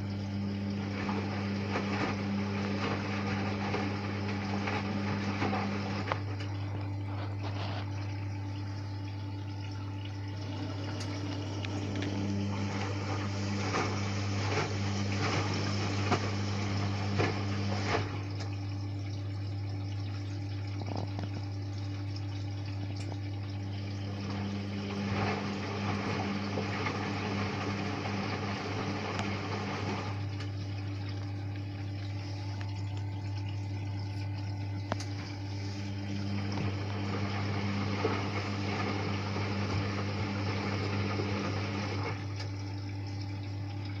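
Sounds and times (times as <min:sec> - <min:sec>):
washing machine hum: 0:00.0 - 0:44.0
water sloshing in drum: 0:00.0 - 0:44.0.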